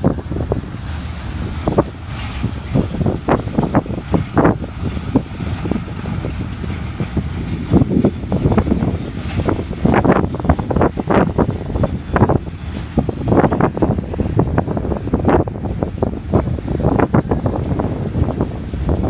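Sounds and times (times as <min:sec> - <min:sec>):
freight train rumbling past: 0:00.0 - 0:19.0
train knocks and clanks: 0:00.0 - 0:19.0.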